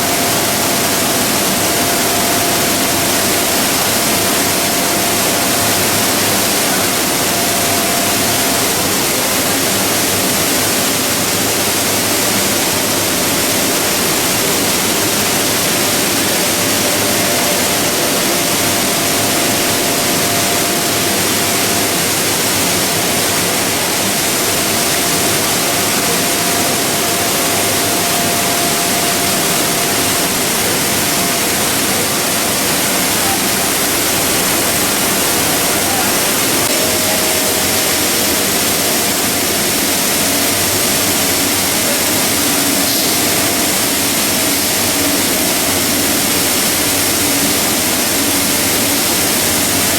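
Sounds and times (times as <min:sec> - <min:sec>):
industrial machinery running: 0:00.0 - 0:49.9
thin steady whine: 0:00.0 - 0:49.9.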